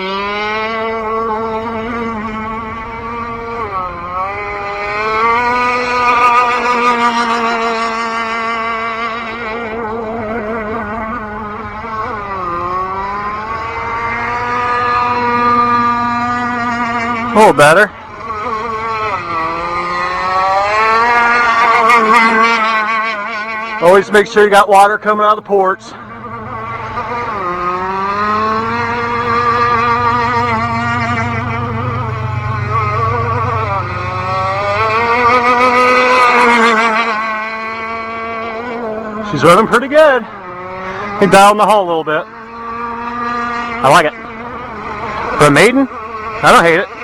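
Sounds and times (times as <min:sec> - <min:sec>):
model boat engine running: 0:00.0 - 0:47.0.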